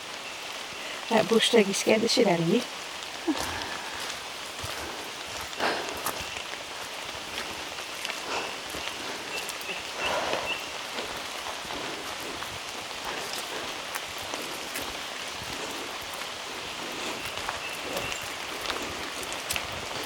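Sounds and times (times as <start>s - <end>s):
rain pattering on foliage: 0.0s - 20.0s
sharp water drips: 0.0s - 20.0s.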